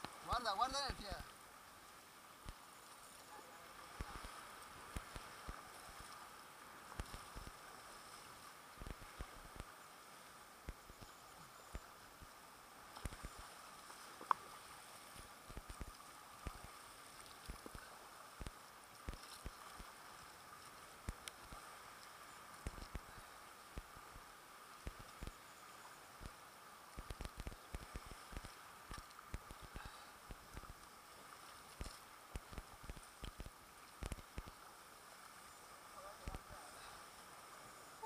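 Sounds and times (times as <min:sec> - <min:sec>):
steady water hiss: 0:00.0 - 0:38.0.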